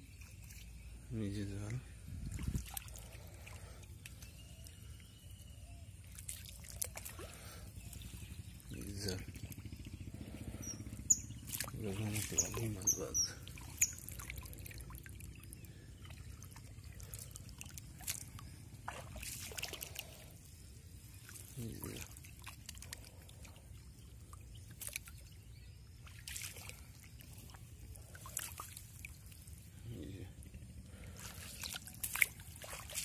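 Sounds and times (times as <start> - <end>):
water trickling and dripping: 0.0 - 5.2, 6.0 - 20.3, 21.1 - 30.1, 31.0 - 33.0
small water splashes: 0.0 - 33.0.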